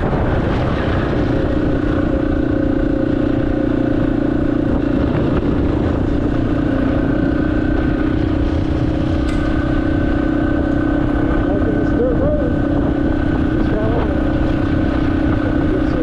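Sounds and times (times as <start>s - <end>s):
motorcycle engine running: 0.0s - 16.0s
wind noise rumble: 0.0s - 16.0s.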